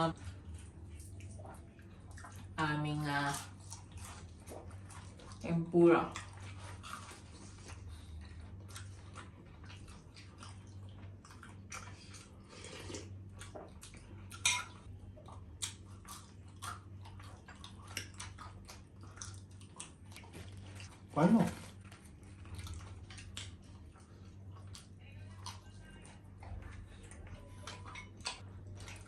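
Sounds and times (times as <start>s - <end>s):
crunching and chewing: 0.1s - 29.0s.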